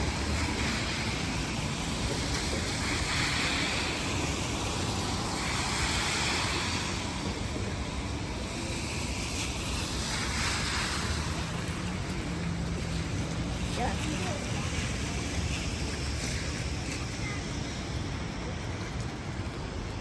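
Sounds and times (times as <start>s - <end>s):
heavy rain hissing: 0.0s - 18.7s
tyres hissing on wet road: 0.0s - 20.0s.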